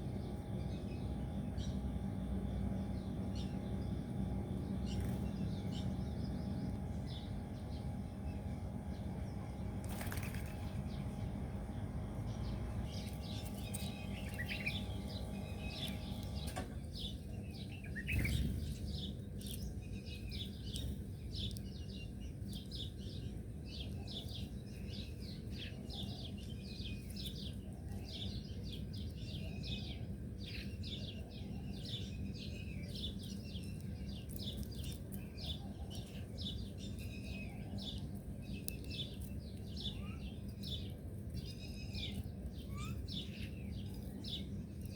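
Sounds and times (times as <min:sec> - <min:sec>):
low background rumble: 0:00.0 - 0:44.9
small birds chirping: 0:00.0 - 0:44.9.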